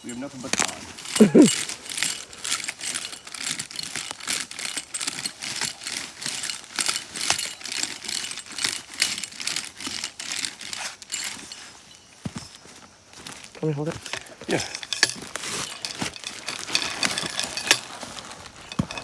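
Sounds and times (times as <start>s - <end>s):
dry leaves and soil scratched: 0.0s - 19.0s.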